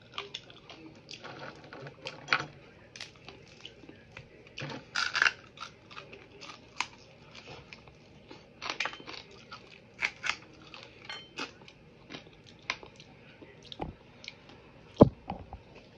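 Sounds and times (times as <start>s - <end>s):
crunching and chewing: 0.0s - 15.9s.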